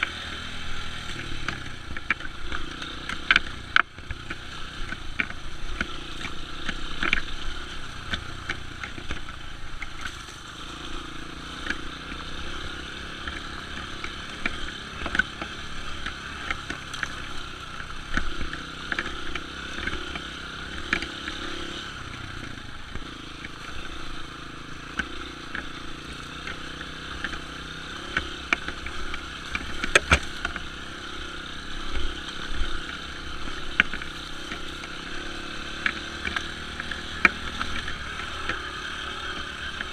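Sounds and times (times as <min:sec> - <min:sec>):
dirt bike engine: 0:00.0 - 0:39.9
knocks and clatter from rough ground: 0:00.2 - 0:12.2, 0:13.2 - 0:39.9.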